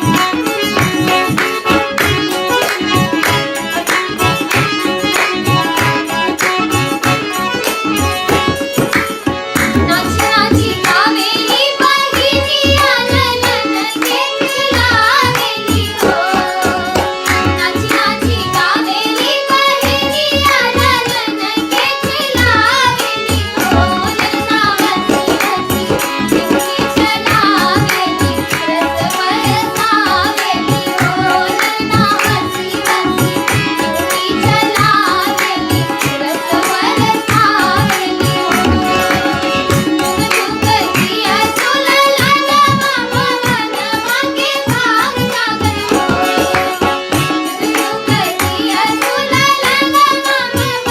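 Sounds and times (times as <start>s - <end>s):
tabla: 0.0s - 50.9s
children singing devotional song: 9.8s - 50.9s.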